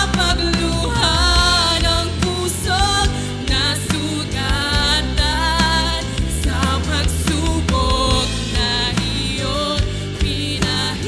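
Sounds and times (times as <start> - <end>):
acoustic guitar: 0.0 - 11.0
bass line: 0.0 - 11.0
person singing: 0.0 - 11.0.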